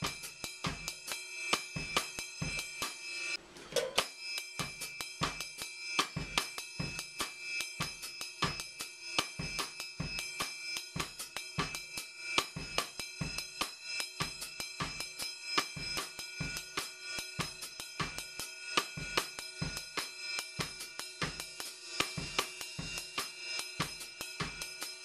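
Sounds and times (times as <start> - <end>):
cymbal ringing: 0.0 - 25.0.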